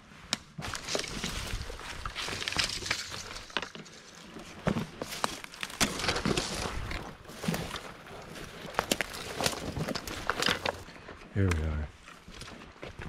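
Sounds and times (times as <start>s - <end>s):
footsteps crunching through undergrowth: 0.6s - 13.0s.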